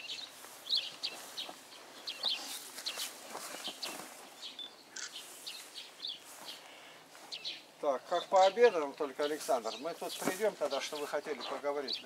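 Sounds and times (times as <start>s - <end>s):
faint outdoor rustling: 0.0s - 12.0s
small birds chirping: 0.0s - 12.0s.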